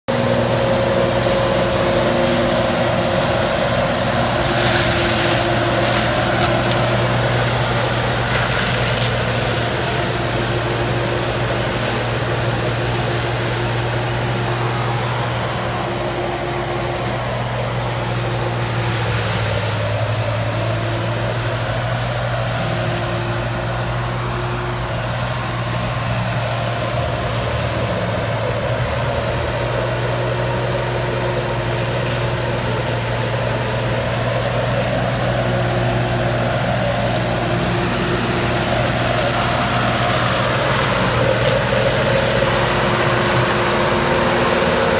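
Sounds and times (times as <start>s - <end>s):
tractor engine running under load: 0.1s - 44.9s.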